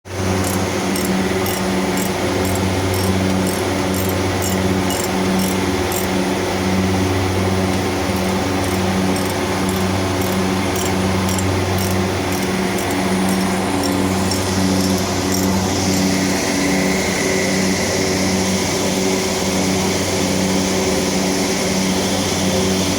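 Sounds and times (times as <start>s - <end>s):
air conditioning machinery humming: 0.1s - 22.9s.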